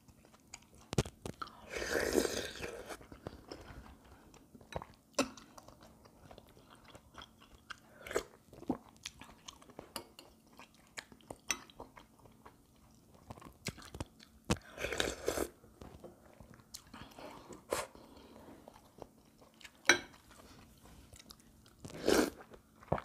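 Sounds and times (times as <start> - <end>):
chewing and smacking food: 0.0 - 1.6, 2.9 - 14.8, 15.8 - 17.2, 18.1 - 23.0.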